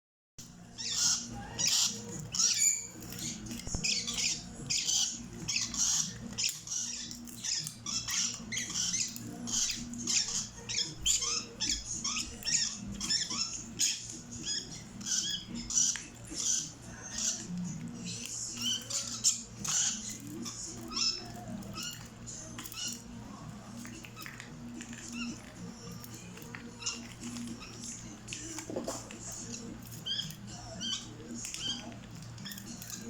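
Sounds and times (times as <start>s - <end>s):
small birds chirping: 0.4s - 33.0s.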